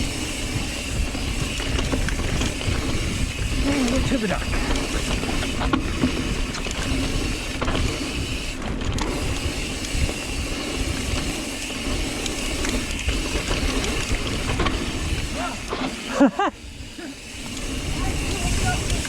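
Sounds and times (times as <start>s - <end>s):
bike tyres rumbling over dirt: 0.0s - 19.0s
freehub ratcheting buzz: 0.0s - 19.0s
chain and frame rattling: 0.1s - 19.0s.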